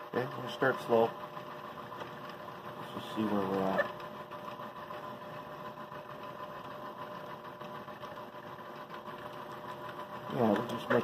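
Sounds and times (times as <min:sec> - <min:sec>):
milling machine cutting plastic: 0:00.0 - 0:11.0.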